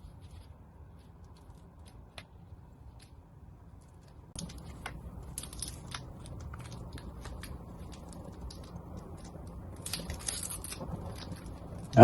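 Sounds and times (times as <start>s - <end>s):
small parts crackling and clicking: 0.0s - 12.0s.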